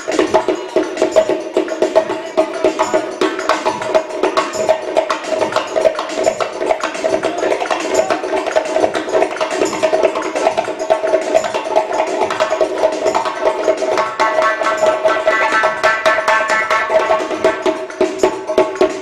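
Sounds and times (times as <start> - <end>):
frame drum played fast: 0.0 - 19.0
pitched melody line: 0.0 - 19.0.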